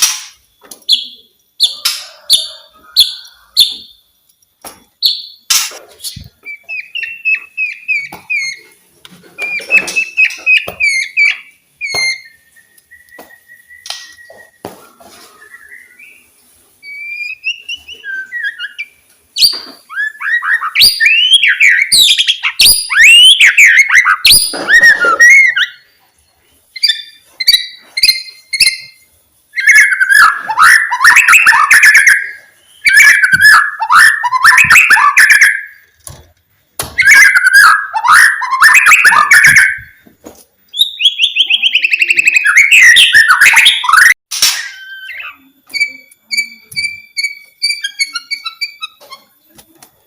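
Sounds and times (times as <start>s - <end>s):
songbird whistling and trilling: 5.0s - 8.7s, 9.4s - 26.0s, 26.7s - 35.8s, 37.0s - 40.0s, 40.7s - 49.2s.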